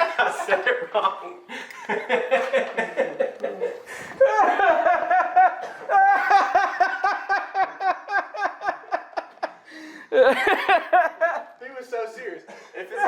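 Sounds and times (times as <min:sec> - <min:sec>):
man laughing hard: 0:00.0 - 0:11.5.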